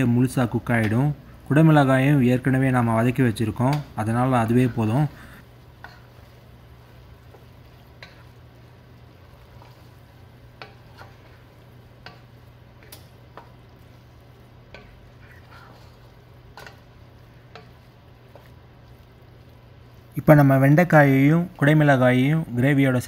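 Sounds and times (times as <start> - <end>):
low steady hum: 0.0 - 23.0
spoon stirring thick gravy: 0.4 - 21.7.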